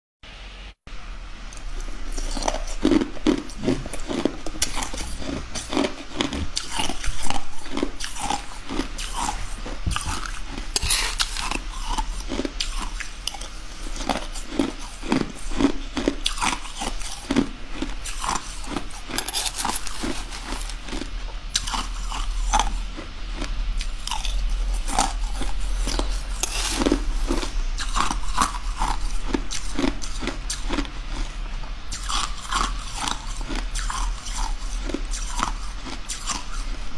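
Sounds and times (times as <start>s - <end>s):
person chewing crunchy ice: 1.8s - 36.9s.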